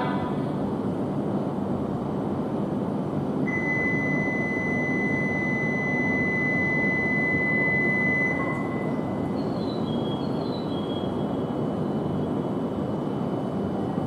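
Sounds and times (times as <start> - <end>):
train rumbling at platform: 0.0 - 14.0.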